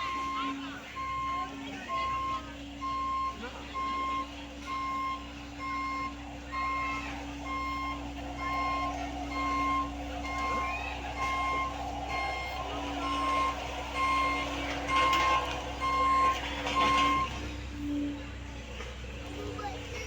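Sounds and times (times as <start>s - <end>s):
reversing alarm beeping: 0.0s - 18.2s
diesel engine running: 0.0s - 20.0s.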